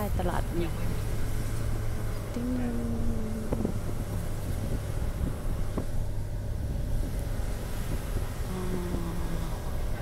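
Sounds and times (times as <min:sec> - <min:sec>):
car engine and tyre hum: 0:00.0 - 0:10.0.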